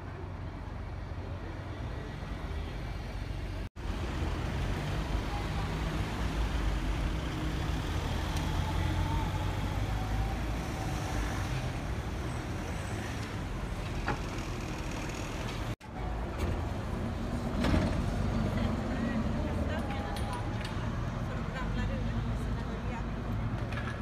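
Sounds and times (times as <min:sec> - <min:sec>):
bus engine moving off: 0:00.0 - 0:24.0.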